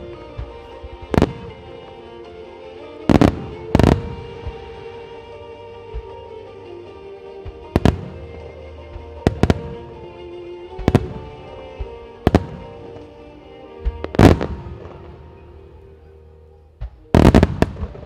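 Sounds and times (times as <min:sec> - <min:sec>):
fireworks bursting with bangs: 0:00.0 - 0:15.9, 0:16.8 - 0:18.0.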